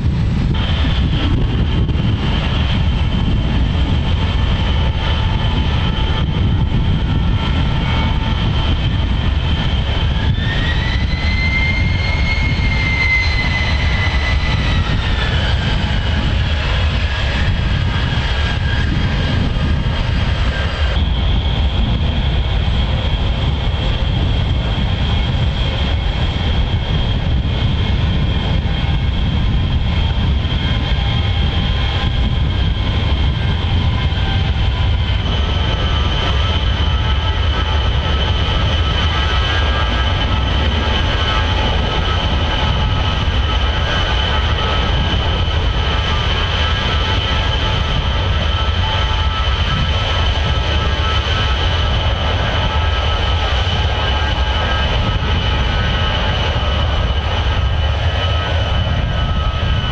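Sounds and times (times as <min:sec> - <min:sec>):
jet engines rumbling and whining: 0:00.0 - 0:59.9.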